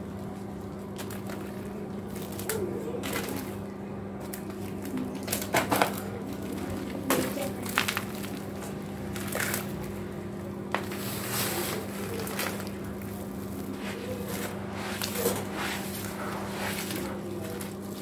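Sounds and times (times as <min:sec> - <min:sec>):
cement crunching and crumbling: 0:00.0 - 0:18.0
steady low hum: 0:00.0 - 0:18.0.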